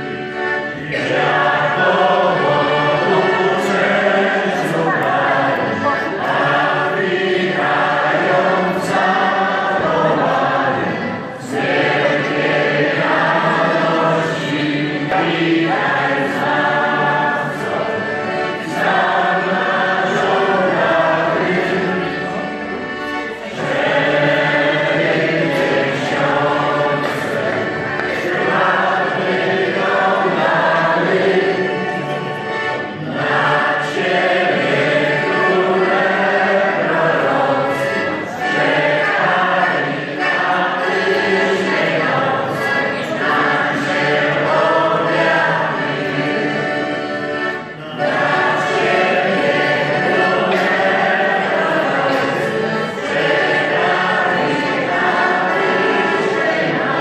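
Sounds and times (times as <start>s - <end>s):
group singing a carol: 0.0s - 57.0s.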